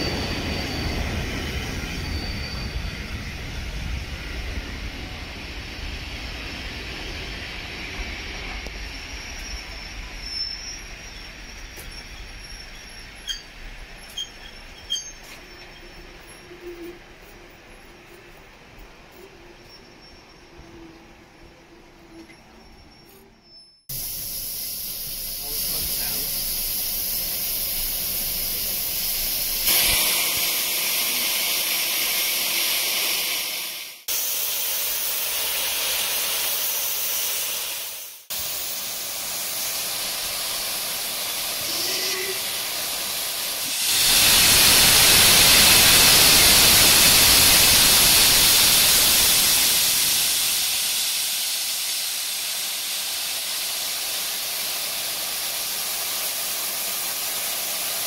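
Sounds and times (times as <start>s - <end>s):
loud rush of steam: 0.0s - 14.0s, 23.9s - 58.0s
steam locomotive hissing: 0.0s - 21.6s, 23.8s - 58.0s.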